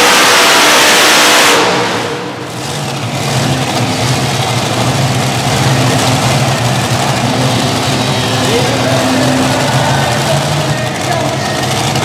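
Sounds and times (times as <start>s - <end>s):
tractor engines winding down to idle: 0.0s - 12.0s.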